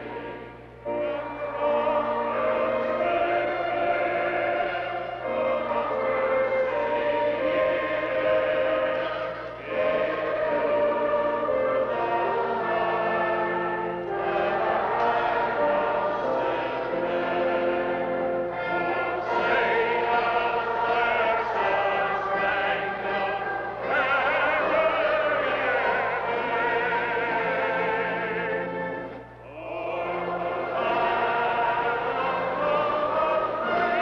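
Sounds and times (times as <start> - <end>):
choir singing slow song: 0.0 - 34.0.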